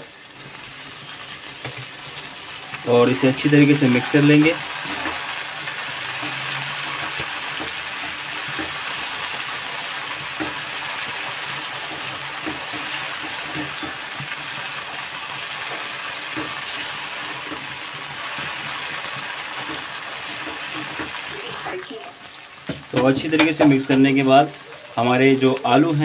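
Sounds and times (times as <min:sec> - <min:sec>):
okra sizzling in oil: 0:00.1 - 0:26.0
spatula clicking and scraping: 0:01.0 - 0:25.9.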